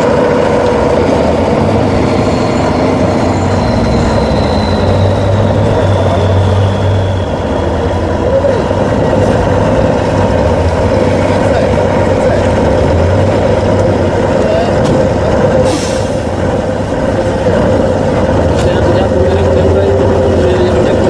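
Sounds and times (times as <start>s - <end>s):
truck engine under load: 0.0s - 21.0s.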